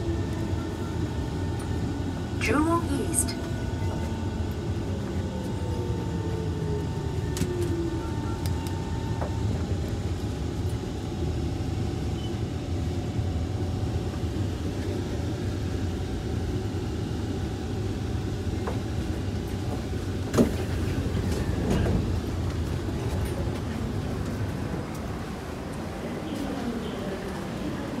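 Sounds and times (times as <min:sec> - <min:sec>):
busy station: 0:00.0 - 0:28.0
stopped train rumbling: 0:00.0 - 0:28.0.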